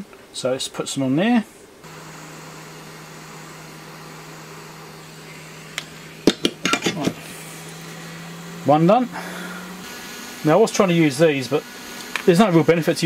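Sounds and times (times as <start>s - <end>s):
hot-air gun hum and hiss: 1.8s - 13.0s.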